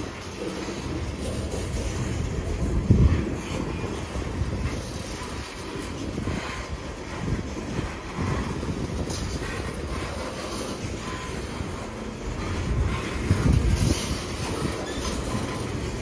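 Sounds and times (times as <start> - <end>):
train wheels rumbling on rail: 0.0 - 16.0
wheel clacks: 0.0 - 16.0.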